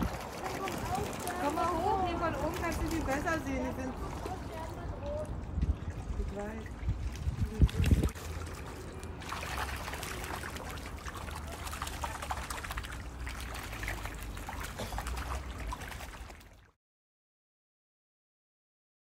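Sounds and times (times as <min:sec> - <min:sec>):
water trickling and splashing: 0:00.0 - 0:16.8.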